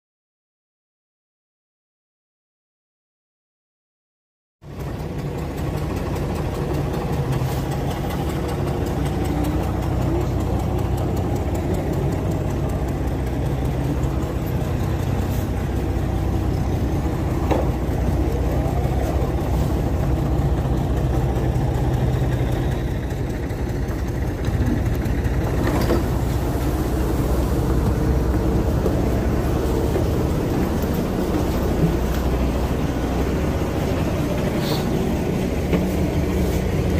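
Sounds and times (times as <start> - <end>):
bus diesel engine idling: 4.6 - 36.9.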